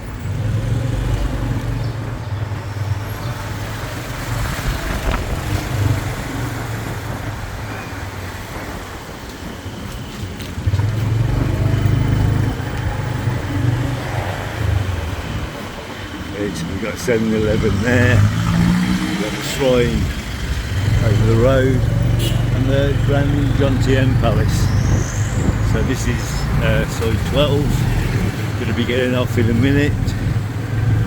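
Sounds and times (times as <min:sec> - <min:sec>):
road and traffic noise: 0:00.0 - 0:31.0.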